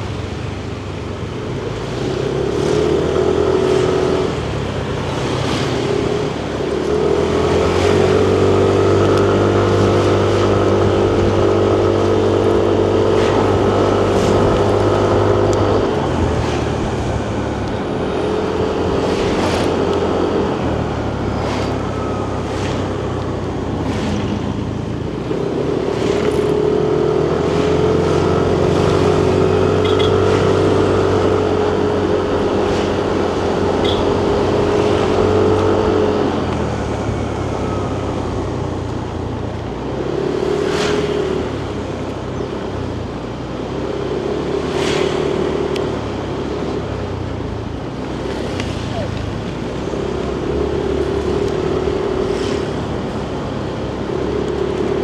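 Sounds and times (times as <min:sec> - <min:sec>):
traffic noise: 0:00.0 - 0:55.0
scooter engine running: 0:01.6 - 0:55.0.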